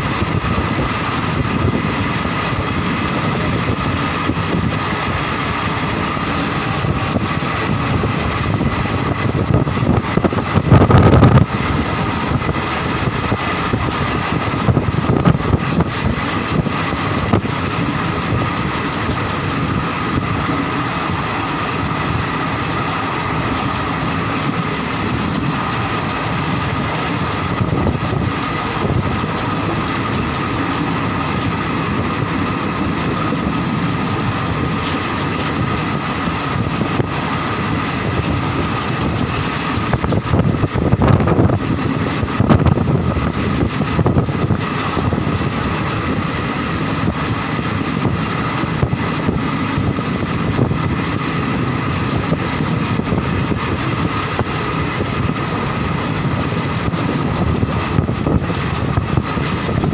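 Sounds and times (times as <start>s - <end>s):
train wheels rumbling on rails: 0.0s - 59.9s
clicks over rail joints: 11.2s - 59.9s.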